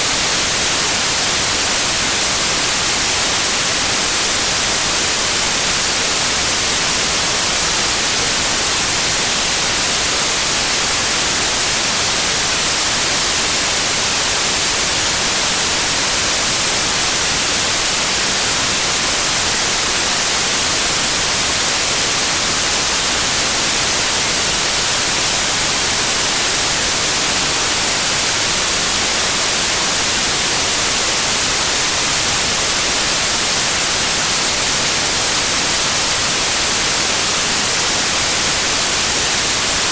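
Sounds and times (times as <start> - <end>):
generated hiss noise: 0.0 - 39.9.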